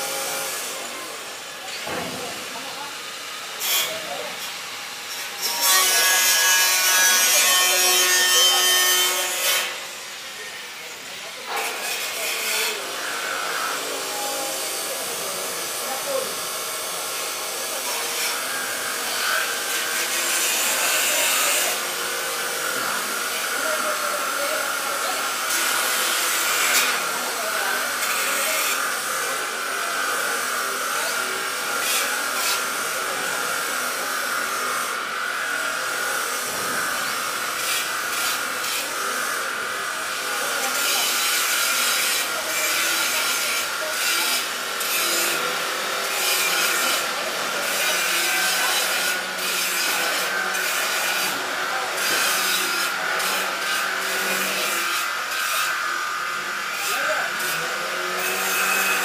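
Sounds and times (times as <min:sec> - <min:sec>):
power tool on metal: 0:00.0 - 0:59.0.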